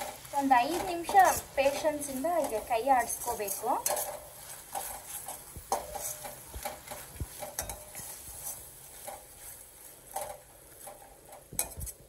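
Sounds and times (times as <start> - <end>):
spatula scraping metal pot: 0.0 - 12.0.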